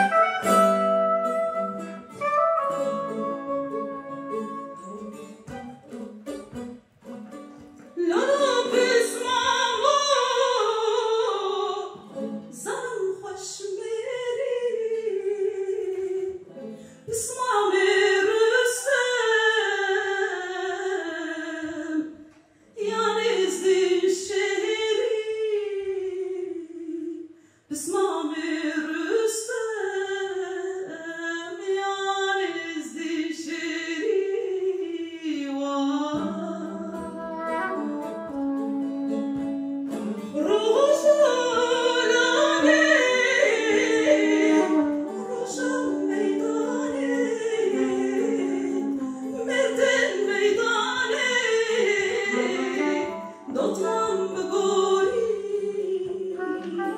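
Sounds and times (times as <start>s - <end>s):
woman singing: 2.1s - 6.1s, 7.8s - 22.2s, 22.8s - 56.9s.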